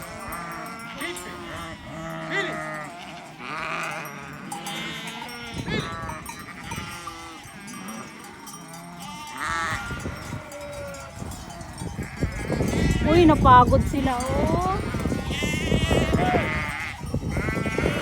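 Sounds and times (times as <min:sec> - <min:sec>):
sheep bleating: 0:00.0 - 0:18.0.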